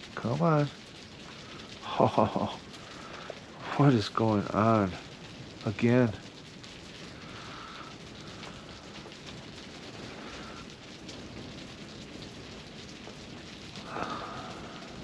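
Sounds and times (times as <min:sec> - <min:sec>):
rain pattering on a shack: 0:00.0 - 0:15.0.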